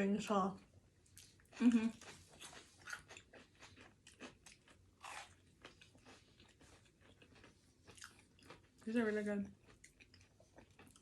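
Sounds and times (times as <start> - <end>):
chewing crunchy food: 1.0 - 11.0.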